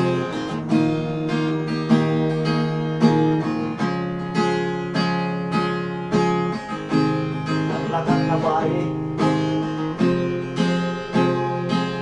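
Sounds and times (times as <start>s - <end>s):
acoustic guitar strummed and picked: 0.0s - 12.0s.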